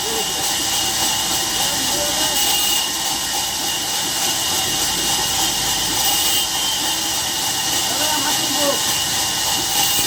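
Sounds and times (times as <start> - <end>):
sawmill saw running: 0.0 - 10.0.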